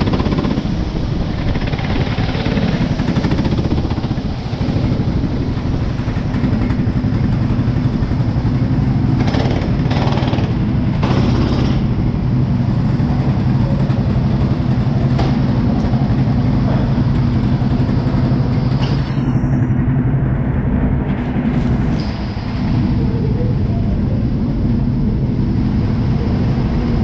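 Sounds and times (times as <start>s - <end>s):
go-kart engine running: 0.0s - 27.0s.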